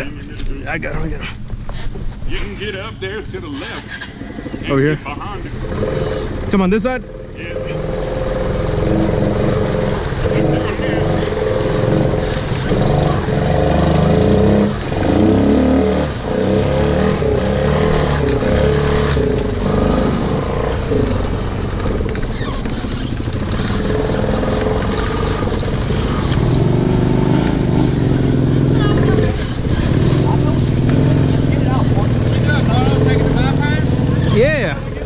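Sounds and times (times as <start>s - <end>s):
quad bike engine revving: 0.0s - 35.0s.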